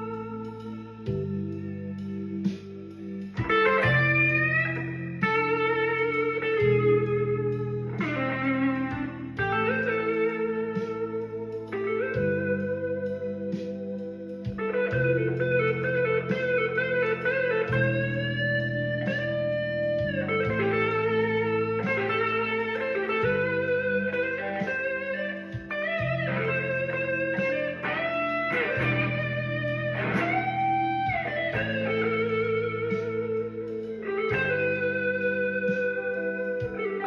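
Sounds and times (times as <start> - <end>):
electric guitar blues solo: 0.0 - 37.0
low chord accompaniment: 0.0 - 37.0.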